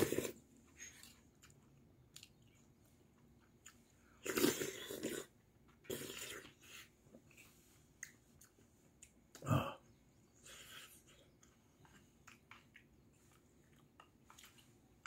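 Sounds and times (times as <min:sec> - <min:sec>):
man chewing noisily: 0:00.0 - 0:15.0.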